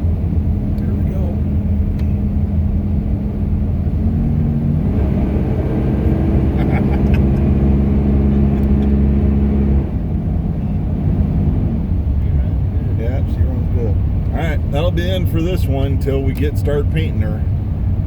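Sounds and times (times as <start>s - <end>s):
pickup truck engine accelerating: 0.0s - 18.0s.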